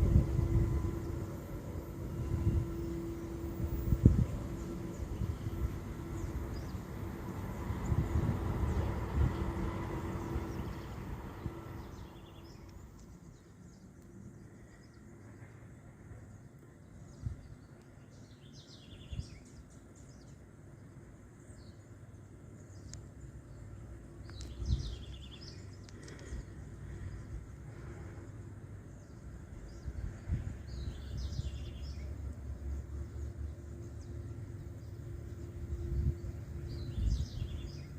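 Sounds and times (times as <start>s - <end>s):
diesel locomotive engine: 0.0s - 17.8s, 20.1s - 37.9s
birds chirping: 0.4s - 37.9s.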